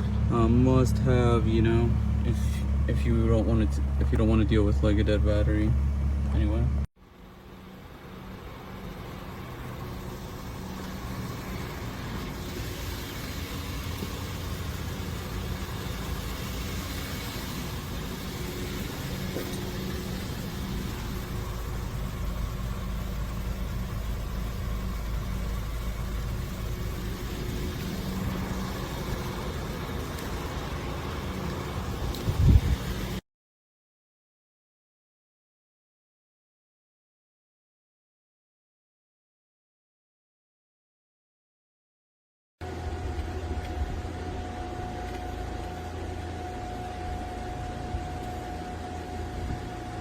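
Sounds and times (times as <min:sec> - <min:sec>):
car engine hum: 0:00.0 - 0:33.2, 0:42.6 - 0:50.0.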